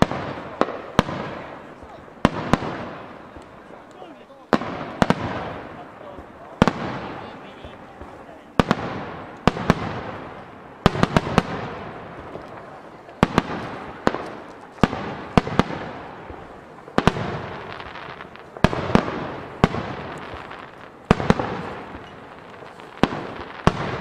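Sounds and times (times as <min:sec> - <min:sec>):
fireworks bursting with echoing bangs: 0:00.0 - 0:24.0.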